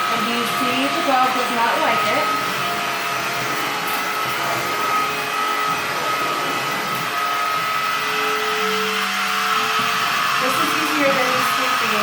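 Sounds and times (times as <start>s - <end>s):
cordless vacuum whining: 0.0s - 12.0s.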